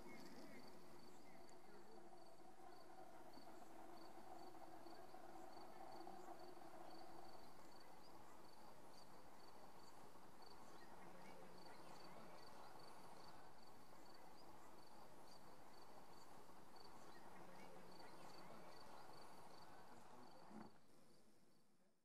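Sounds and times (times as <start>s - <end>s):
insect chirping: 0.0s - 20.5s
faint low hum: 0.0s - 22.0s.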